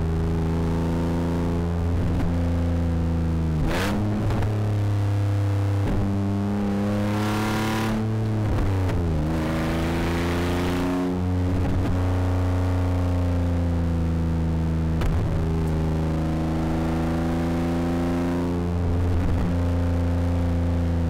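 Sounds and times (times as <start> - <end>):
rally car engine at high revs: 0.0 - 21.0.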